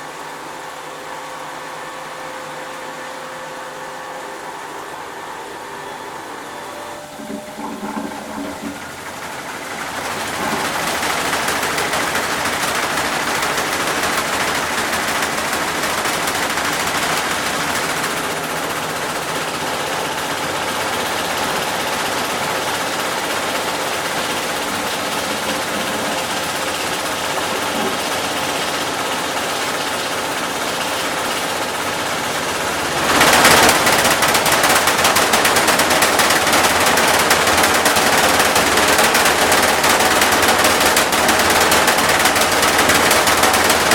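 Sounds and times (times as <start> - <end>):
washing machine spinning: 0.0 - 43.9.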